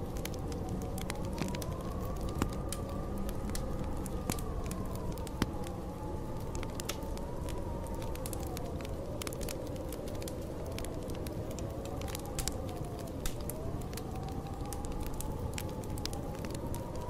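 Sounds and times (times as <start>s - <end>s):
snowstorm wind howling: 0.0s - 17.0s
wood fire crackling: 0.0s - 17.0s.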